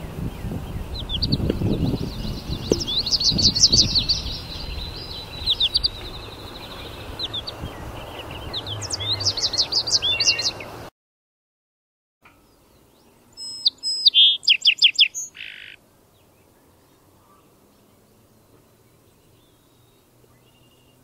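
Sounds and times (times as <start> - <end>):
outdoor background noise: 0.0 - 10.9, 12.2 - 21.0
small birds chirping: 0.0 - 10.9, 12.4 - 21.0.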